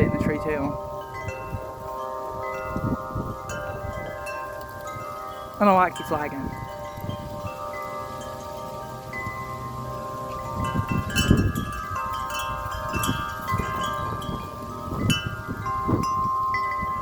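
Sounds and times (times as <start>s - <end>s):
gusty wind rumbling: 0.0s - 17.0s
metal wind chimes ringing: 0.0s - 17.0s.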